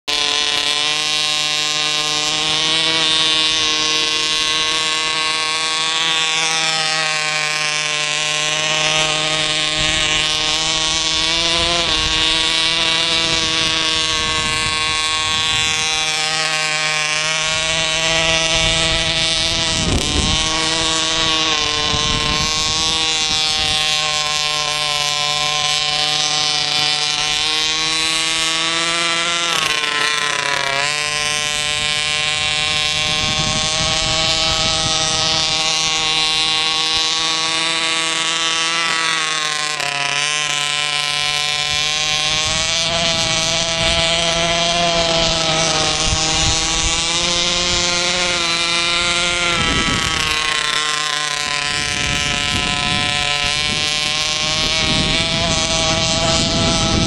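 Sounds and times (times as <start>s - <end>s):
model car engine revving: 0.0s - 57.0s.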